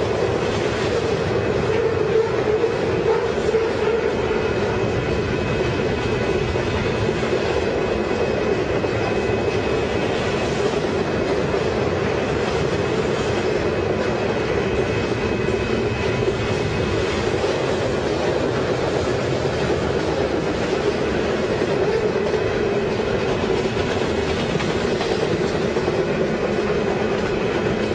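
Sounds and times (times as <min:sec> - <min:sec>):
freight train wheels rumbling: 0:00.0 - 0:27.9.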